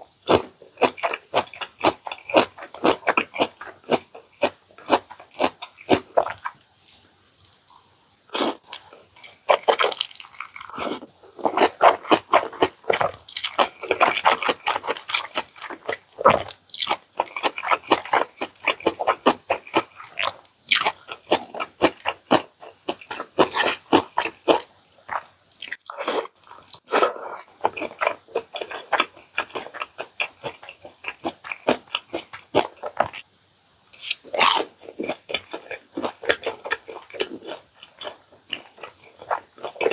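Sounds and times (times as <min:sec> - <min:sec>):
person chewing food: 0:00.2 - 0:33.3, 0:34.0 - 0:39.9.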